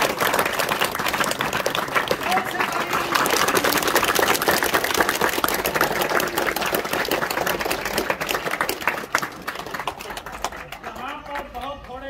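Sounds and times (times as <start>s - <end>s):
children applauding: 0.0s - 12.0s.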